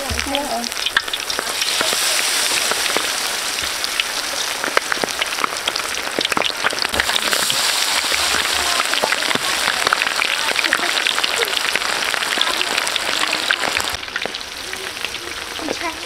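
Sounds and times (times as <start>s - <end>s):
deep-frying oil sizzling and popping: 0.0s - 16.0s.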